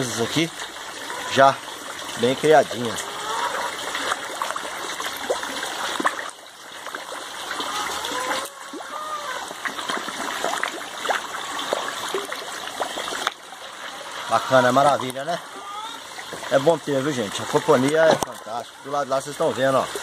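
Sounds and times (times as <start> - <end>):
water pouring into tank: 0.0 - 20.0.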